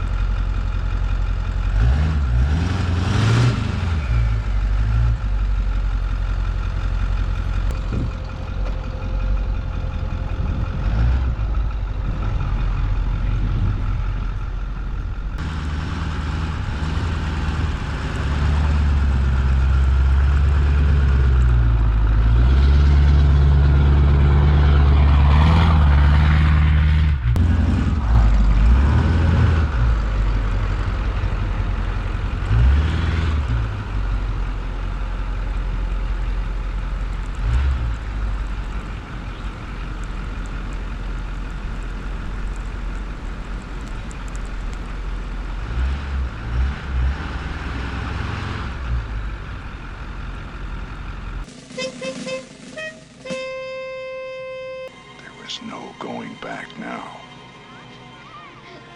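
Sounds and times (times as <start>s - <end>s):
diesel pickup engine under load: 0.0s - 54.0s.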